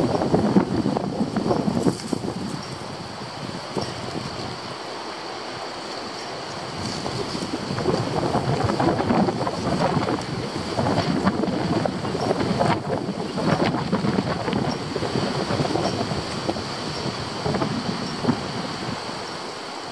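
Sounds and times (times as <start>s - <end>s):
wind buffeting microphone: 0.0s - 5.0s, 6.4s - 19.9s.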